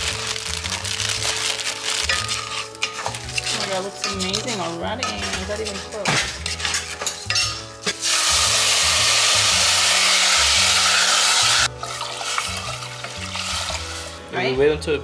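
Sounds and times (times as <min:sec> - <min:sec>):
water sizzling in hot pot: 0:00.0 - 0:14.7.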